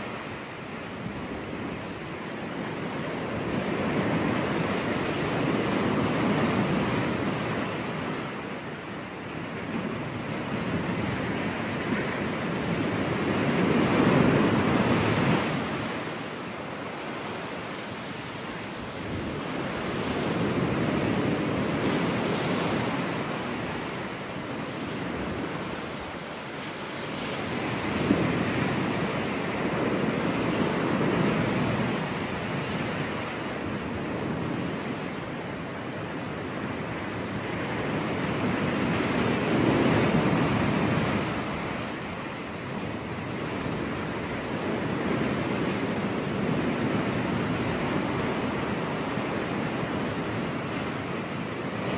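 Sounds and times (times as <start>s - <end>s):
ocean waves breaking: 0.0s - 51.9s
wind on microphone: 0.0s - 51.9s.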